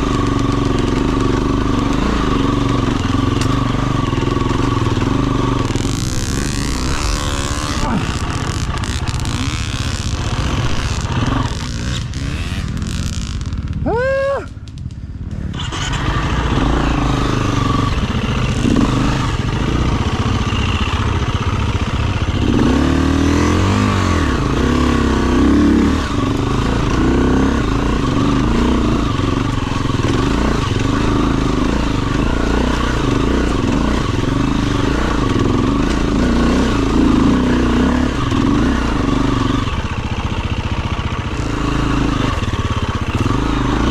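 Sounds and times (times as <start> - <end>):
dirt bike engine revving: 0.0 - 14.4, 15.2 - 43.9.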